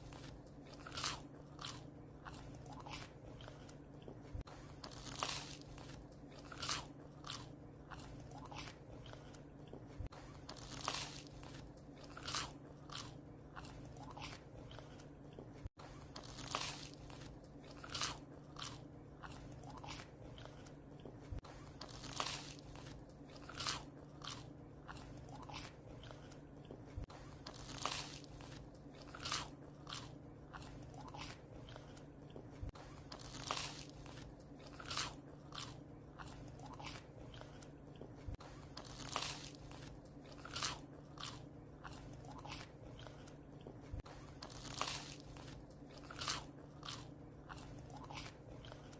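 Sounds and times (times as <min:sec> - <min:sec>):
dog chewing crunchy bread: 0:00.0 - 0:48.9.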